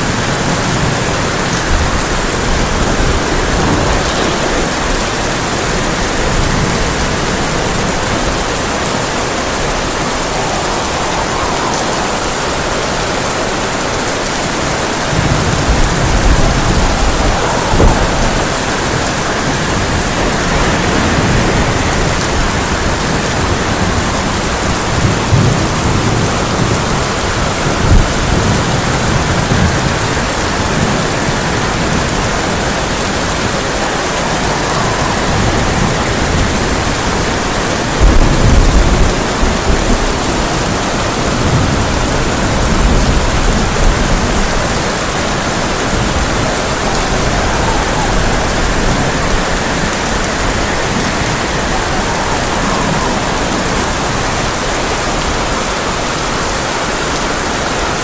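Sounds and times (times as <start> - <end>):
heavy rain on a tin roof: 0.0 - 58.0
thunder rumbling: 0.0 - 58.0.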